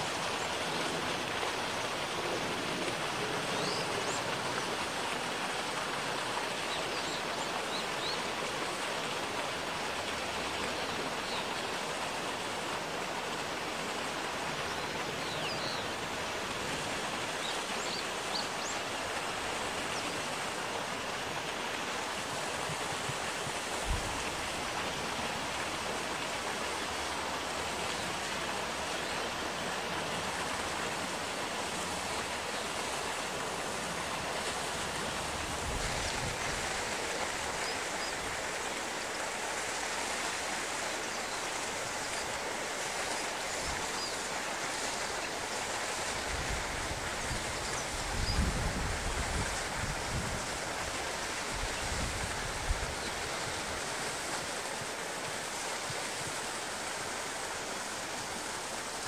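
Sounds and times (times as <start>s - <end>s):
flowing river water: 0.0s - 59.0s.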